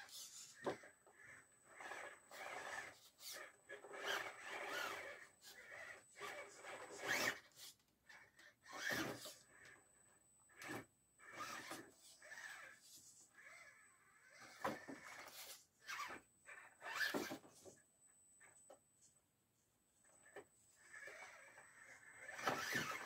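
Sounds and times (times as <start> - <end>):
electric motor and gears whining: 0.0 - 17.8, 20.2 - 23.0.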